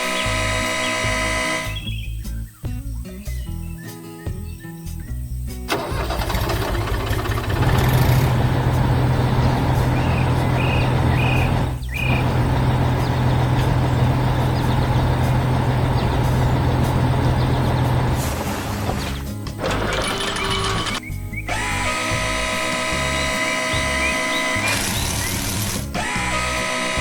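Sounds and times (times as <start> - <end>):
diesel machinery engine humming: 0.0 - 2.2, 5.7 - 27.0.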